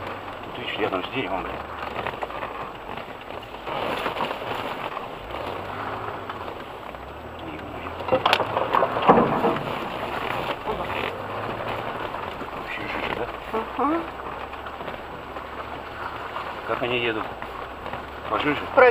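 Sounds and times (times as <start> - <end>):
low engine hum: 0.0 - 18.9
tyre and mud noise: 0.0 - 18.9
vehicle jolting knocks: 0.0 - 18.9.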